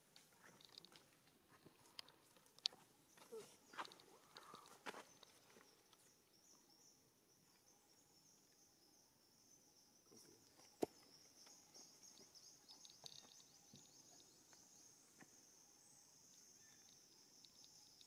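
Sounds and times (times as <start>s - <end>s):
high-pitched insect chorus: 3.2s - 18.0s.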